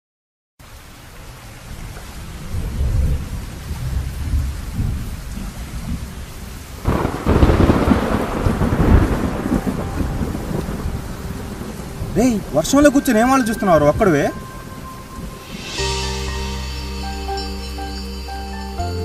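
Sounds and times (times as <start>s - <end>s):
rain falling: 0.6s - 19.0s
rolling thunder: 1.6s - 16.9s.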